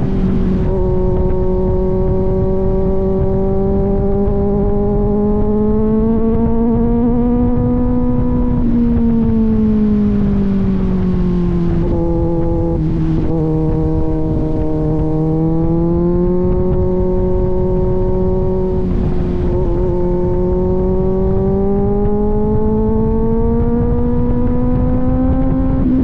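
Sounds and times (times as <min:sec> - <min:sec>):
motorcycle engine cruising: 0:00.0 - 0:26.0
wind and road rumble: 0:00.0 - 0:26.0.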